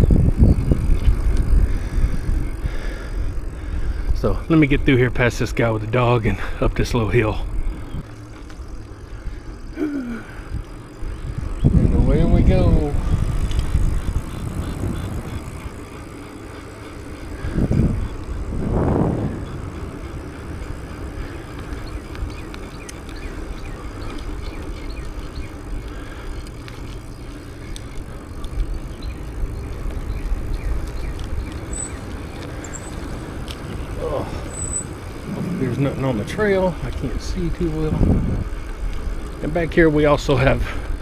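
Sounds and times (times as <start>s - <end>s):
wind rumble on microphone: 0.0s - 9.6s, 10.4s - 41.0s
bicycle tyres on pavement: 0.0s - 41.0s.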